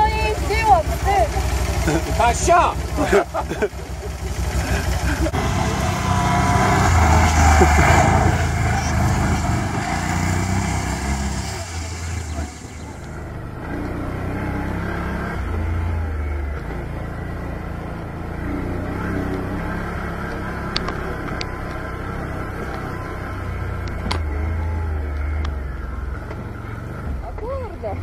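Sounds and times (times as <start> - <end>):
quad engine running: 0.0 - 28.0.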